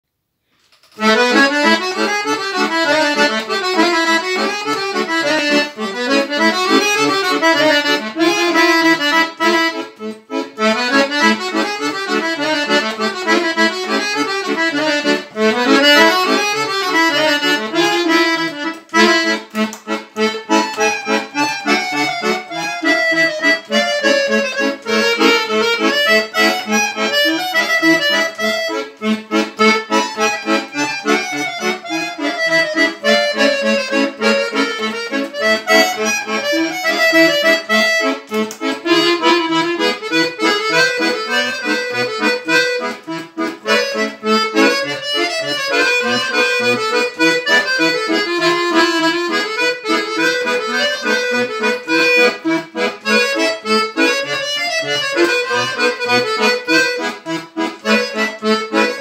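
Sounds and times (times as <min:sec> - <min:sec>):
accordion playing fast folk dance: 0:00.6 - 0:59.0.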